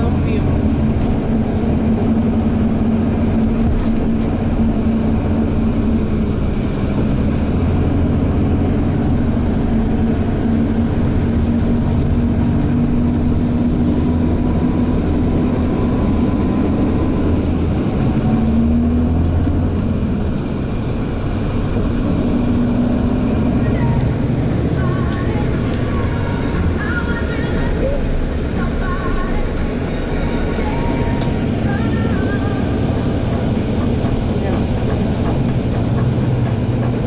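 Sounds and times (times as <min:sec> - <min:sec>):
bus engine drone: 0:00.0 - 0:37.0
road noise: 0:00.0 - 0:37.0.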